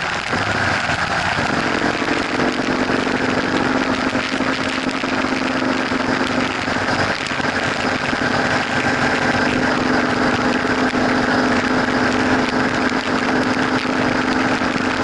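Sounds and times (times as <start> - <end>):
motorcycle engine cruising: 0.0 - 15.0
wind noise: 0.0 - 15.0.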